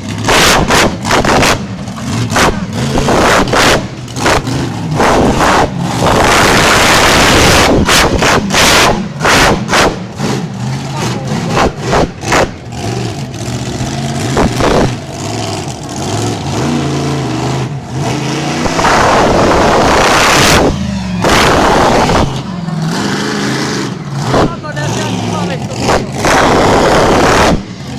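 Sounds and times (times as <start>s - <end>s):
truck engine revving: 0.0s - 27.9s.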